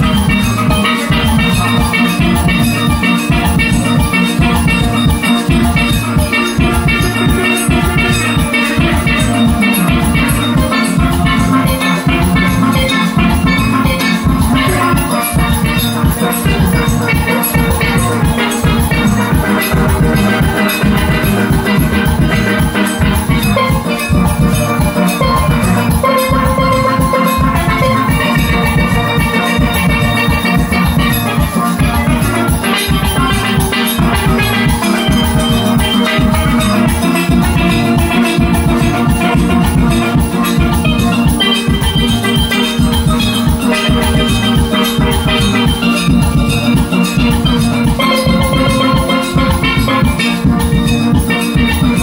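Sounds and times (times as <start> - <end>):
drums beating: 0.0 - 52.0
steelpans playing melody: 0.0 - 52.0.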